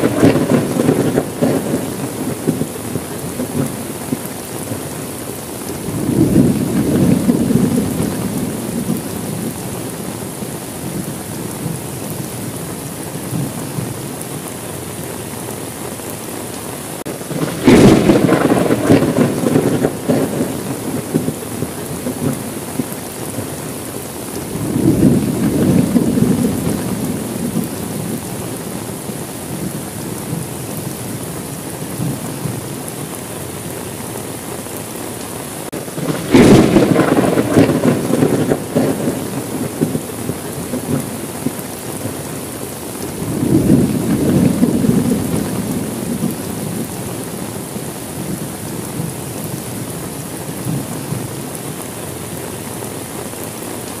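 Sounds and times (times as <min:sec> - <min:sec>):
rolling thunder: 0:00.0 - 0:14.2, 0:17.0 - 0:32.9, 0:35.6 - 0:51.5
heavy rain: 0:00.0 - 0:54.0.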